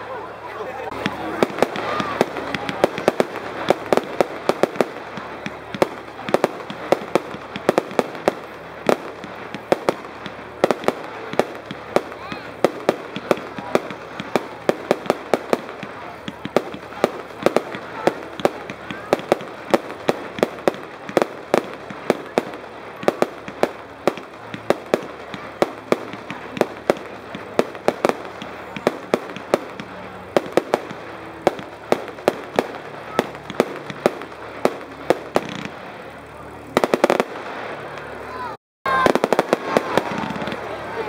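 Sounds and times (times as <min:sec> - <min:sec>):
fireworks pops and bangs: 0:00.7 - 0:38.3, 0:38.9 - 0:41.0.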